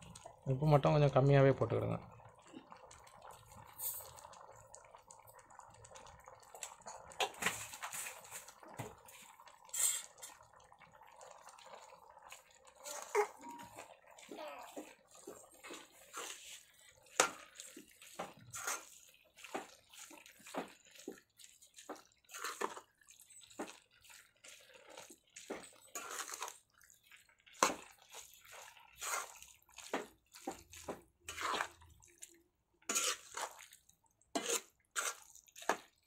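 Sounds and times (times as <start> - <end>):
spatula stirring and scraping metal pot: 5.9 - 10.4, 11.2 - 36.0.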